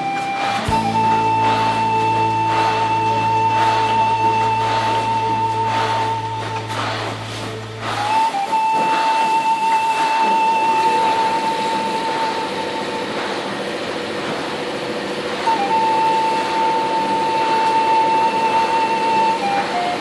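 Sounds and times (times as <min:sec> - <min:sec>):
background music with held notes: 0:00.0 - 0:13.3, 0:15.4 - 0:20.0
steady noise: 0:00.0 - 0:20.0.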